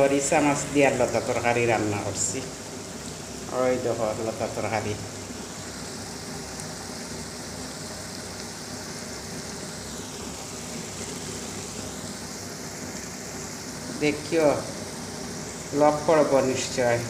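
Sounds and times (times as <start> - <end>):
curry sizzling and bubbling: 0.0 - 17.0.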